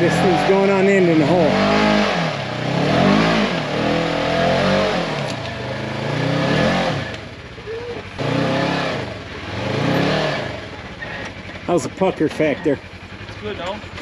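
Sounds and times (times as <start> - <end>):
small engine revving: 0.0 - 14.0.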